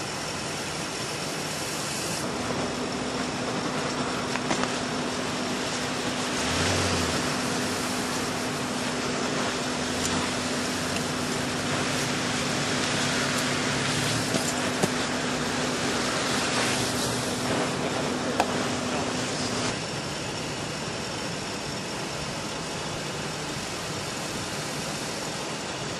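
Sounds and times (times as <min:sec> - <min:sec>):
road traffic: 0:00.0 - 0:25.9.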